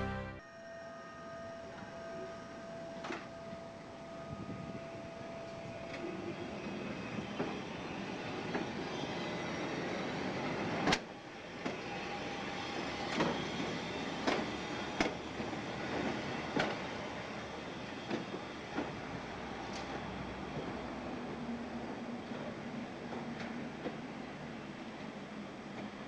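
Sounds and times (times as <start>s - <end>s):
streetcar rumbling past: 0.0s - 0.4s, 1.6s - 26.0s
wheels clacking on rails: 3.0s - 26.0s.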